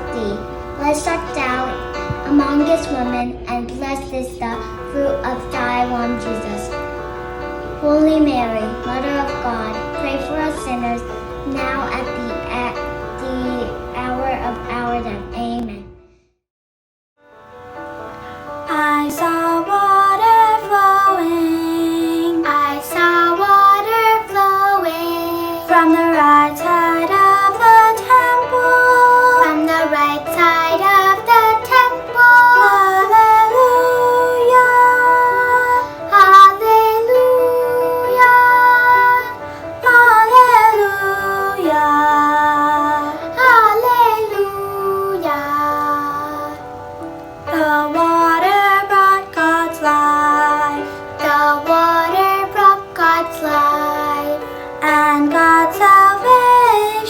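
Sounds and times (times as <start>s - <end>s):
children's choir singing a hymn: 0.0s - 3.5s, 4.4s - 15.4s, 18.6s - 46.8s, 47.4s - 57.0s.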